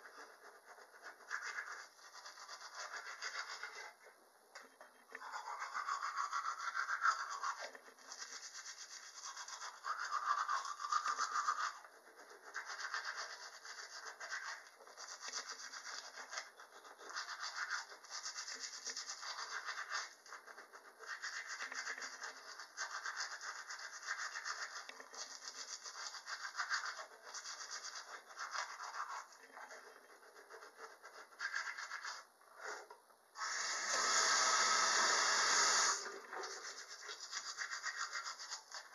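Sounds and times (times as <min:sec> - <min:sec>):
toothbrush scrubbing teeth: 0:00.0 - 0:38.9.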